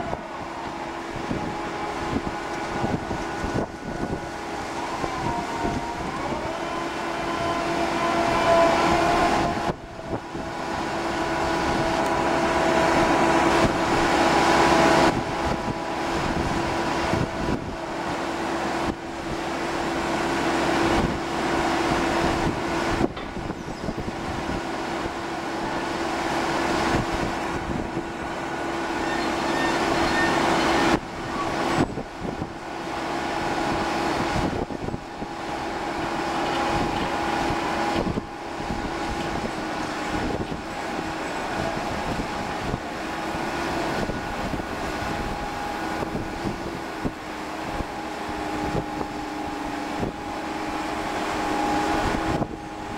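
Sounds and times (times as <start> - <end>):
crane machinery whining hum: 0.0 - 52.9.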